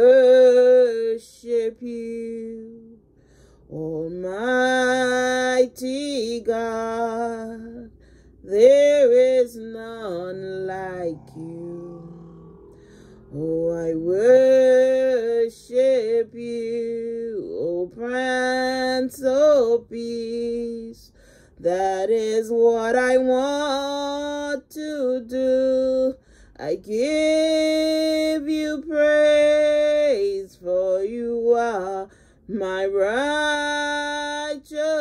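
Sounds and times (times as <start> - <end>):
woman singing slow worship song: 0.0 - 35.0.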